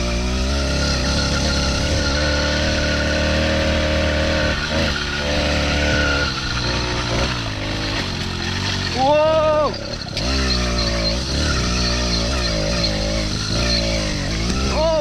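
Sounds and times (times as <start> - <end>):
two-stroke engine at high revs: 0.0 - 15.0.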